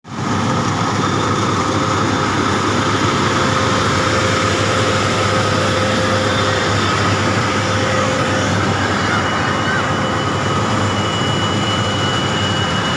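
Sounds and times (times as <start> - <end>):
machine whine: 0.1 - 12.9
rice machine running: 0.1 - 12.9.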